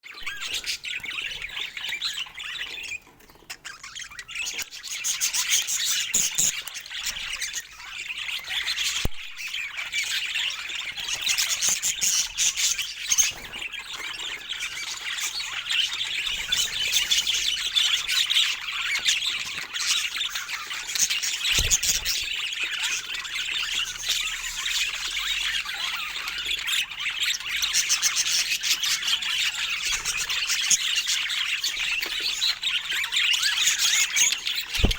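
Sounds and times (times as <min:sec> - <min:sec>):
budgerigars warbling and chattering: 0:00.1 - 0:34.9.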